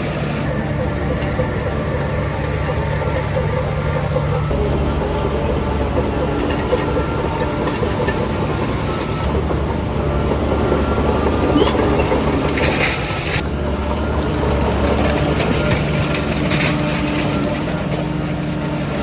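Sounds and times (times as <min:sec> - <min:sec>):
bulldozer diesel engine running: 0:00.0 - 0:19.0
steel tracks rattling: 0:00.0 - 0:19.0.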